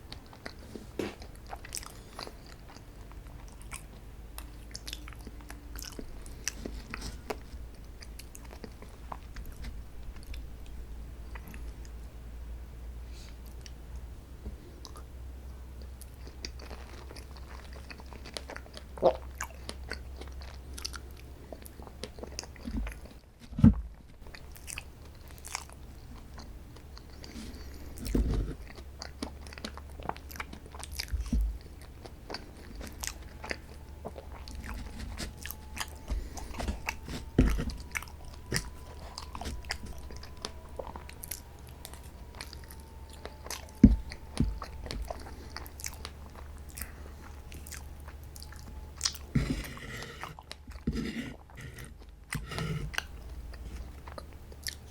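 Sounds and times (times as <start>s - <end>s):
chewing sweets: 0.0s - 12.1s, 13.2s - 54.9s.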